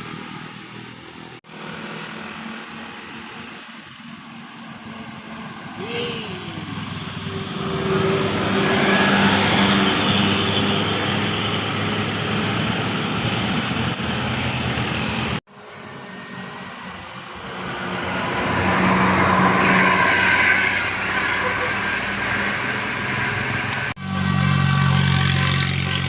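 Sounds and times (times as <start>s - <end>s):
bus passing close by: 0.0s - 26.0s
vehicle approaching: 0.0s - 26.0s.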